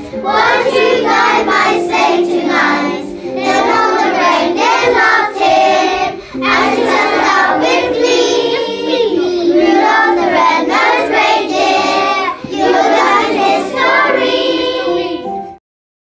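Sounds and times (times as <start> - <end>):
children singing in unison: 0.0 - 15.5.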